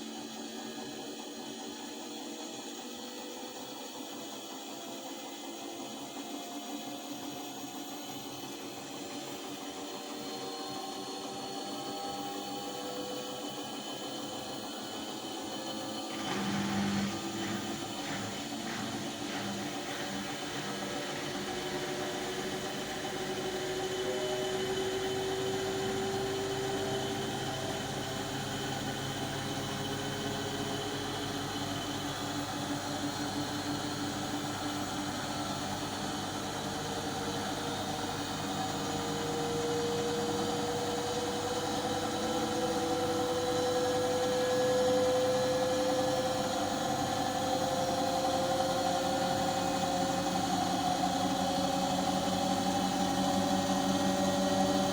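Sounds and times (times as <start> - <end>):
washing machine hum and whine: 0.0 - 54.9.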